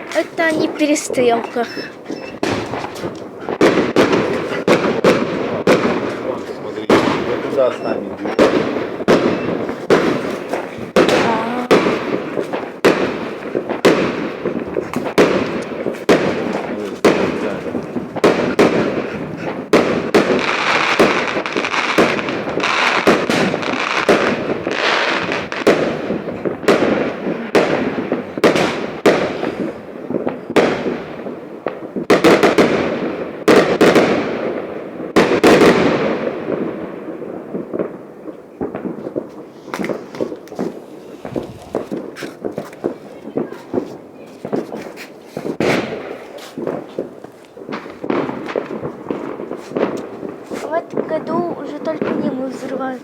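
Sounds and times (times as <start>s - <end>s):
fireworks bangs and booms: 0.0s - 53.0s
fireworks crackle: 0.0s - 53.0s.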